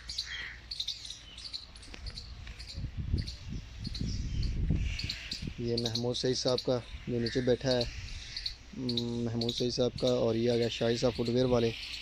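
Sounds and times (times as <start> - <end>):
small animals chirping: 0.0 - 12.0.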